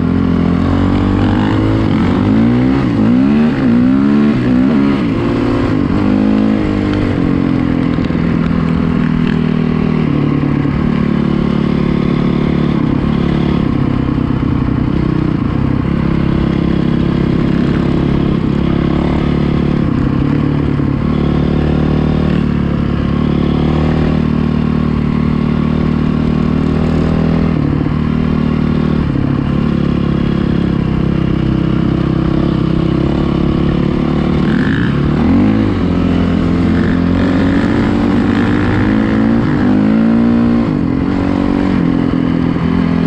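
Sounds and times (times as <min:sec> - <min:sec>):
dirt bike engine revving: 0:00.0 - 0:13.9, 0:14.9 - 0:43.0.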